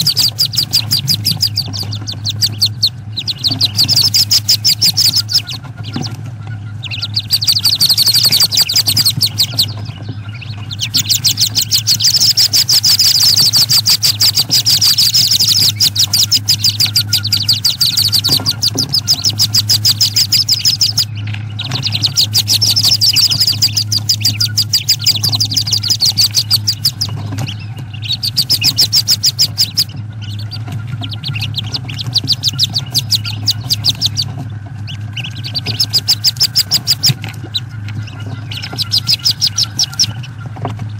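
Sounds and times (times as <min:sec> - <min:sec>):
ducklings peeping: 0:00.0 - 0:40.9
steady low hum: 0:00.0 - 0:40.9.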